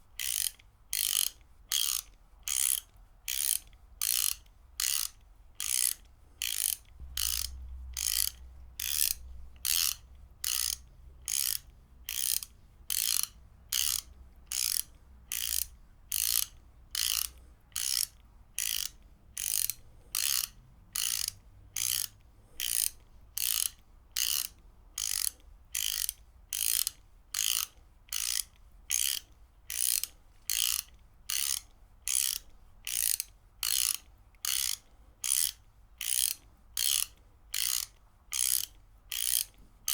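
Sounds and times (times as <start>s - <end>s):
ratchet wrench clicking: 0.2s - 39.9s.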